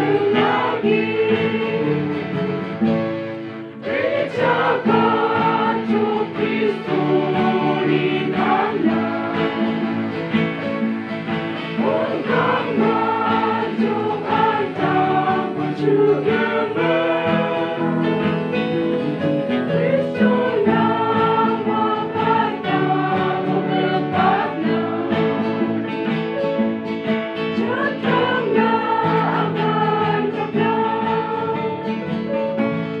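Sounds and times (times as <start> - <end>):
acoustic guitars: 0.0 - 33.0
choir singing a hymn: 0.0 - 33.0.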